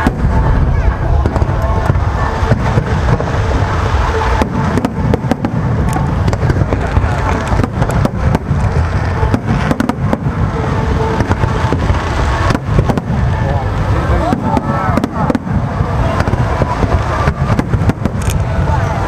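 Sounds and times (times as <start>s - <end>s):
rumble of firework booms: 0.0s - 19.0s
sharp firework cracks: 0.0s - 19.0s.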